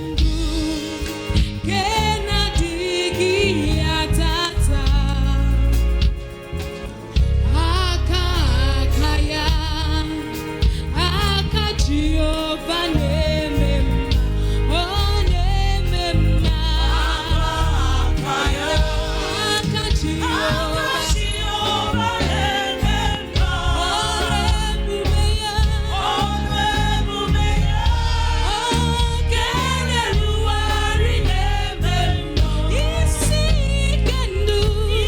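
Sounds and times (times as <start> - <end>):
band with heavy bass: 0.0 - 35.0
voices singing gospel: 0.0 - 35.0.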